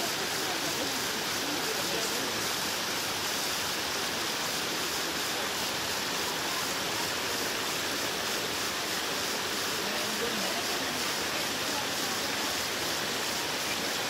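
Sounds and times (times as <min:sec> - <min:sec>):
stream rushing over boulders: 0:00.0 - 0:14.0.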